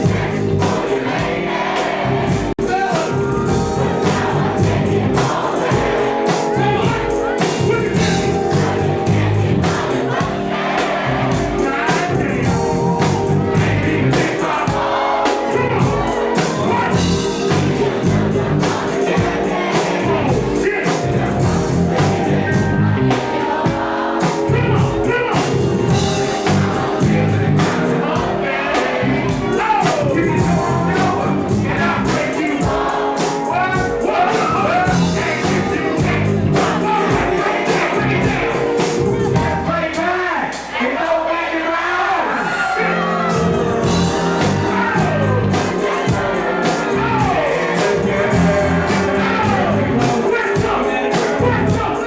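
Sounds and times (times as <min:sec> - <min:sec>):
live concert music with singing: 0:00.0 - 0:52.0.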